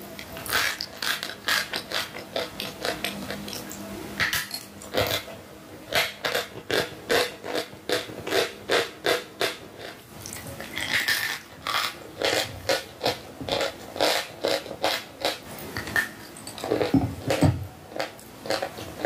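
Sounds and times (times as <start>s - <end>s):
chewing chalk crunches: 0.1s - 19.0s.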